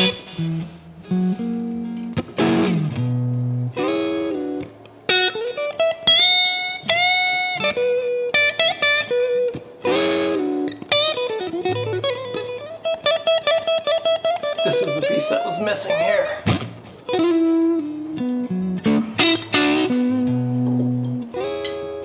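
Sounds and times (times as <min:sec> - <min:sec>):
electric guitar melody: 0:00.0 - 0:22.0.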